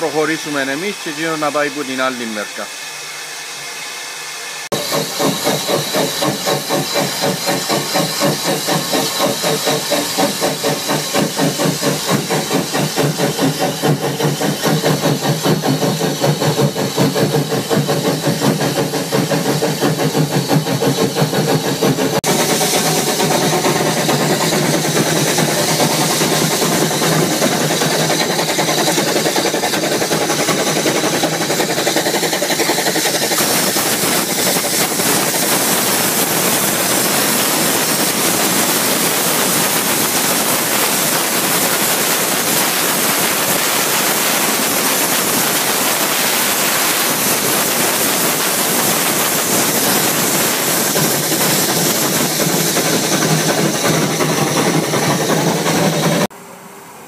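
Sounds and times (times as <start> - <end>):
train running: 0.0 - 56.5
steam hissing: 0.0 - 56.6.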